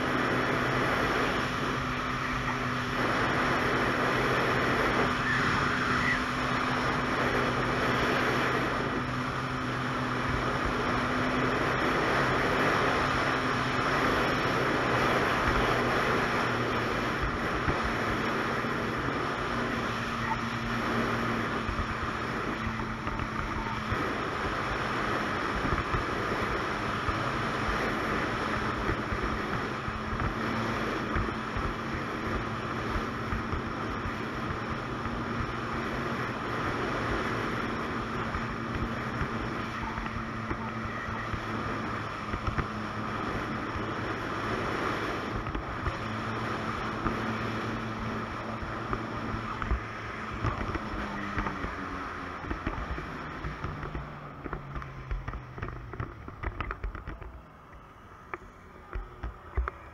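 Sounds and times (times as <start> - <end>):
wind buffeting microphone: 0.0 - 57.7
snowmobile engine cruising: 0.0 - 59.9.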